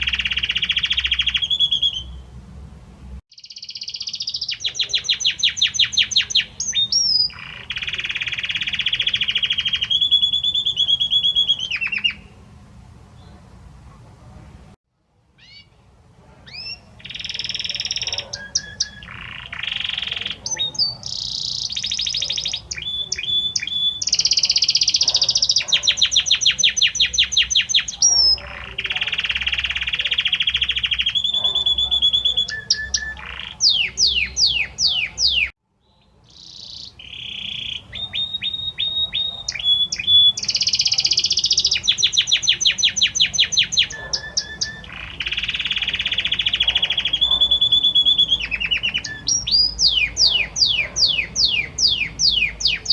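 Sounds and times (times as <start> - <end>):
canary singing trills: 0.0 - 12.5, 15.4 - 52.9.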